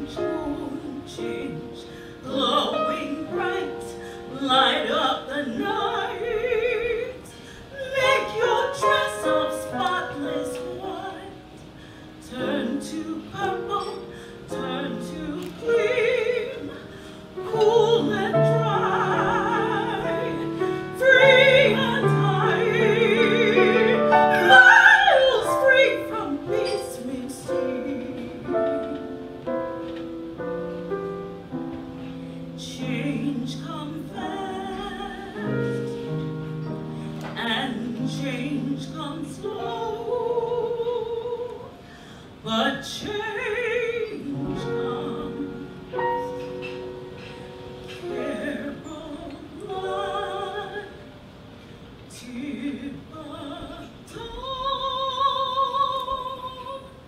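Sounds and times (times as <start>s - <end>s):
woman singing a ballad: 0.0s - 29.6s, 32.2s - 51.2s, 52.1s - 57.0s
piano accompaniment: 0.0s - 57.0s.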